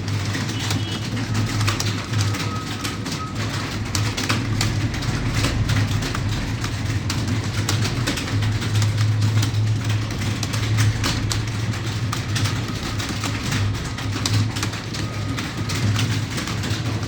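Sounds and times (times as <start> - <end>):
keyboard typing clatter: 0.0 - 17.0.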